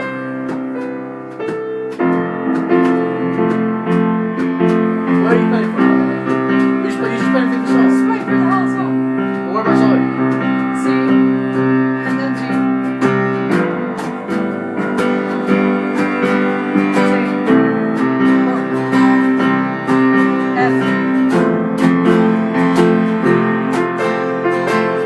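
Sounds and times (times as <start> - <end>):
acoustic guitar strumming chords: 0.0 - 25.0
held keyboard chord: 0.0 - 25.0.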